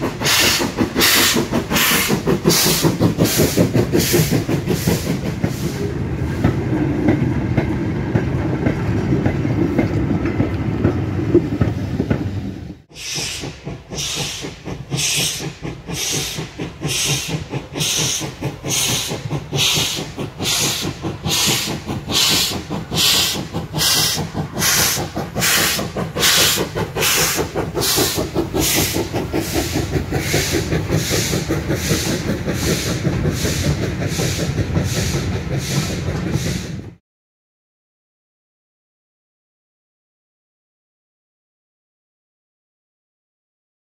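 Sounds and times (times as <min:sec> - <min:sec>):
steam locomotive chuffing: 0:00.0 - 0:37.0
wagon wheels rumbling on rail: 0:00.0 - 0:37.0.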